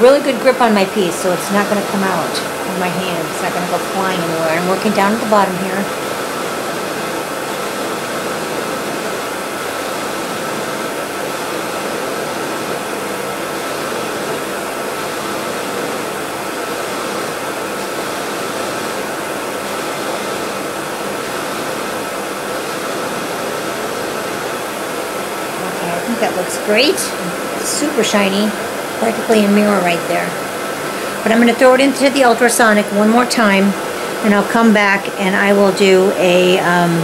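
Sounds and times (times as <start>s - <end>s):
polishing wheel whirring: 0.0s - 32.0s.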